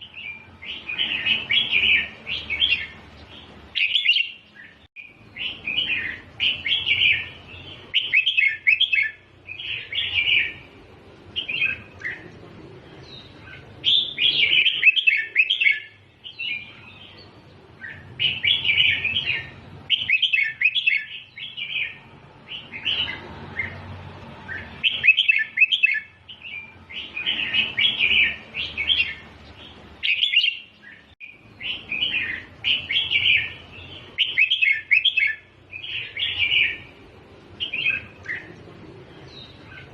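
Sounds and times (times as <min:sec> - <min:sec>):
bird singing bright phrases: 0:00.0 - 0:39.9.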